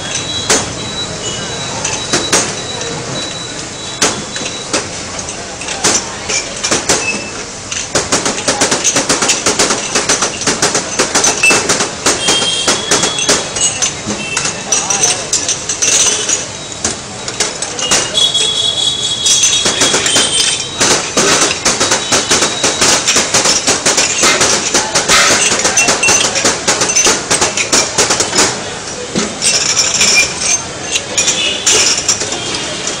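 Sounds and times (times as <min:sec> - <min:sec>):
glasses clinking on steel tray: 0:00.0 - 0:32.9.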